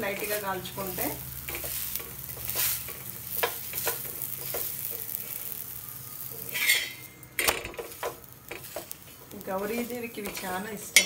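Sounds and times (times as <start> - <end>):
ghee sizzling on a griddle: 0.0 - 11.0
metal spatula clicking and scraping: 1.4 - 11.0.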